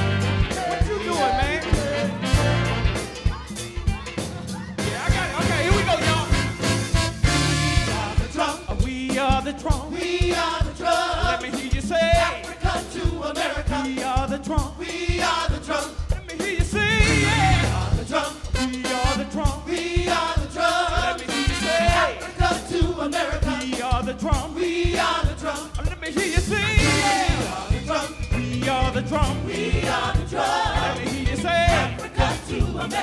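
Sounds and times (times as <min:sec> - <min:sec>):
gospel choir singing: 0:00.0 - 0:03.1, 0:04.3 - 0:33.0
live band playing: 0:00.0 - 0:33.0
steady drum beat: 0:00.0 - 0:33.0.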